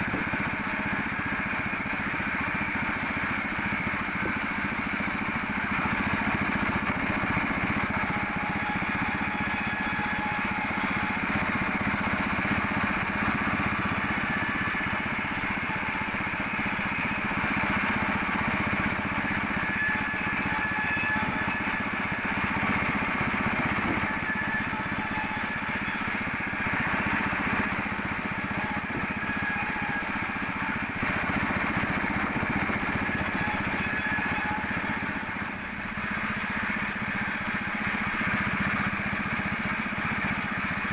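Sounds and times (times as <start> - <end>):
sawmill machinery droning: 0.0 - 40.9.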